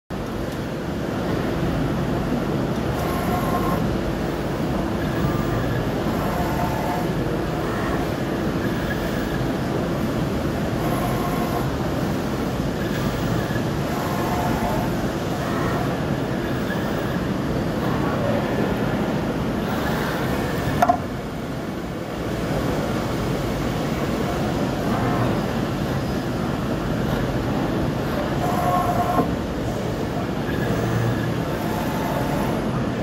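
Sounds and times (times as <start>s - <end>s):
tube bending machine hum: 0.2s - 33.0s.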